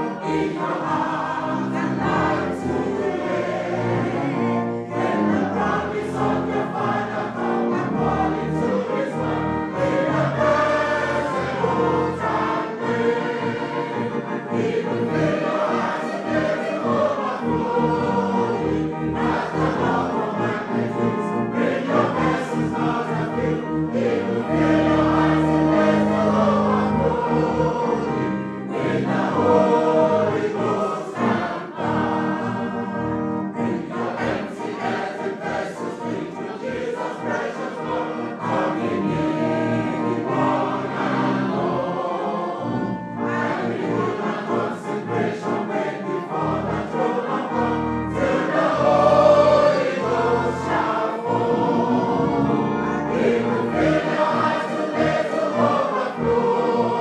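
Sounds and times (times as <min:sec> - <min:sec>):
congregation singing a hymn: 0:00.0 - 0:57.0
musical accompaniment: 0:00.0 - 0:57.0.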